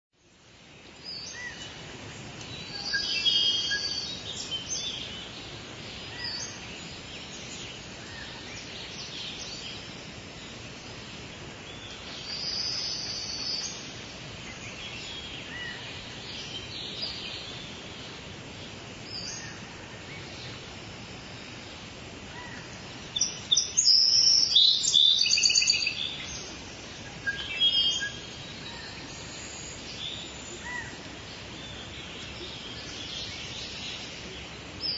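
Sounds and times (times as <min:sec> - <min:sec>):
small birds chirping: 0:00.2 - 0:34.9
soft rain falling: 0:00.2 - 0:34.9.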